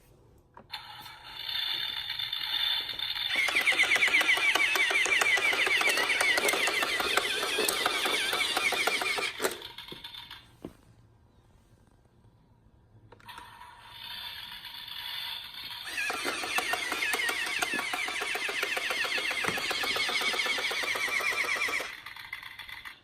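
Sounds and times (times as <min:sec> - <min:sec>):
toy mechanism humming: 0:00.7 - 0:10.4, 0:13.2 - 0:23.0
toy mechanism clicking and whirring: 0:00.7 - 0:10.5, 0:13.2 - 0:23.0.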